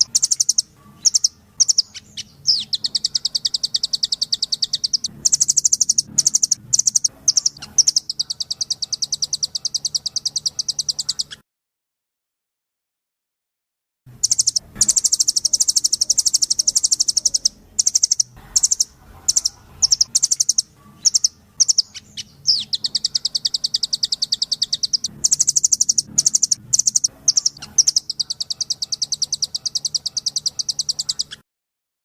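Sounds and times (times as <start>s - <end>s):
bird singing rapid trills: 0.0s - 11.4s, 14.2s - 31.4s.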